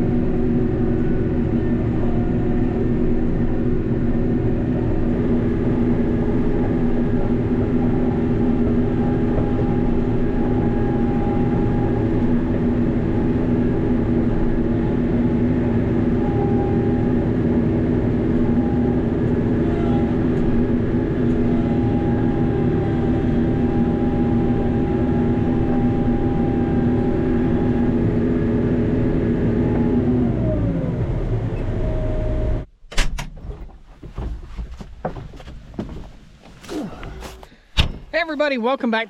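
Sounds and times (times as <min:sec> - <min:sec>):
hydraulic pump whine: 0:00.0 - 0:32.7
tractor diesel engine running: 0:00.0 - 0:32.7.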